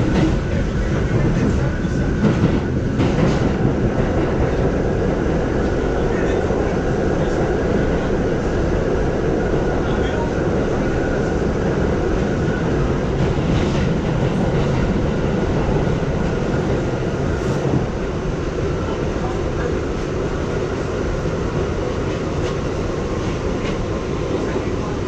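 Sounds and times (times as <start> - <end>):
rumble of train wheels on rail: 0.0 - 25.0.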